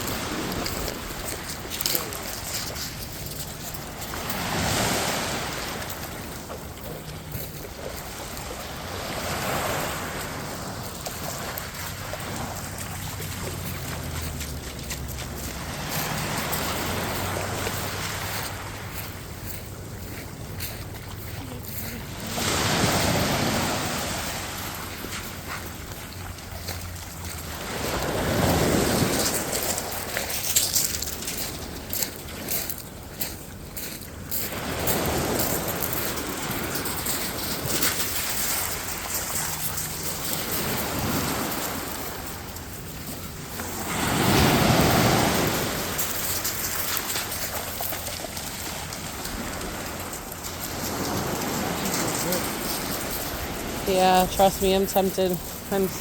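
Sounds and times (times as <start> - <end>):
ocean surf washing on beach: 0.0 - 32.6, 33.3 - 56.0
waves breaking on shore: 0.0 - 56.0.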